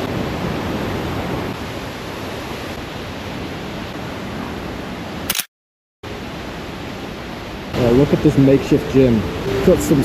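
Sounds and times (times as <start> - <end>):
river and waterfall rushing: 0.0 - 5.3, 6.0 - 10.0.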